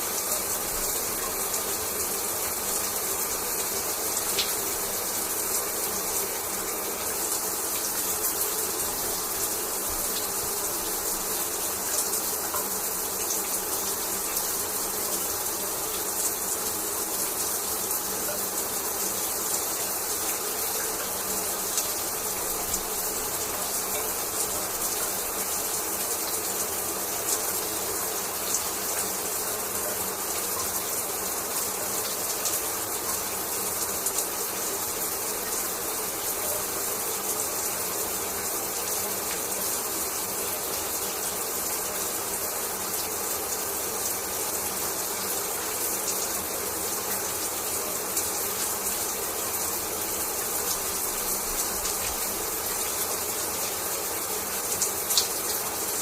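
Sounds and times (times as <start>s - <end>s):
shower water splashing: 0.0s - 56.0s.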